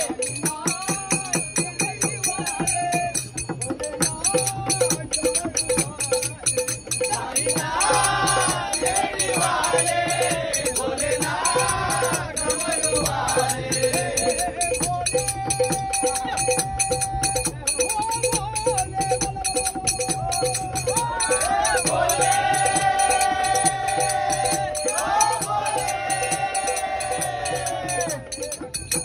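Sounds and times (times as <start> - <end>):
hand cymbals clashing: 0.0 - 29.0
hand drums: 0.0 - 29.0
men singing devotional song: 0.0 - 29.0.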